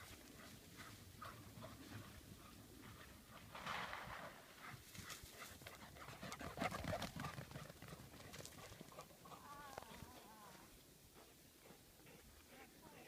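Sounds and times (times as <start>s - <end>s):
dogs panting: 0.0s - 3.6s, 4.5s - 10.0s, 11.1s - 12.8s.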